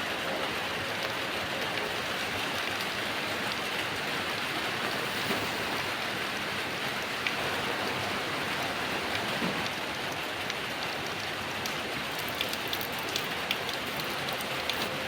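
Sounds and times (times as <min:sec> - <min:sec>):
heavy rain falling: 0:01.7 - 0:15.0.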